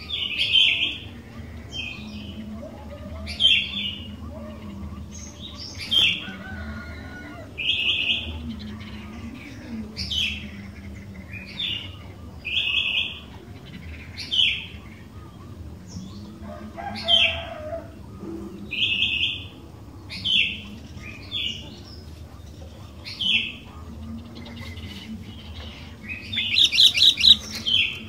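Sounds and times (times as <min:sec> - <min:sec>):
bird calling: 0:00.0 - 0:28.0.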